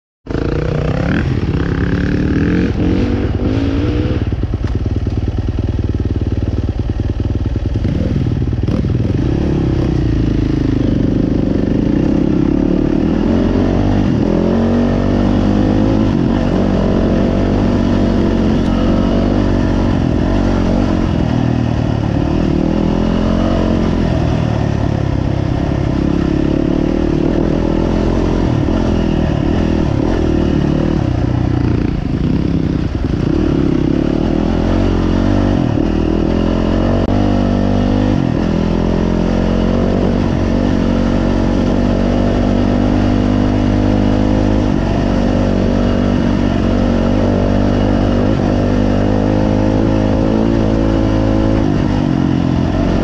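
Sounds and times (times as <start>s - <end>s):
motocross bikes revving: 0.3s - 4.6s, 7.5s - 53.0s.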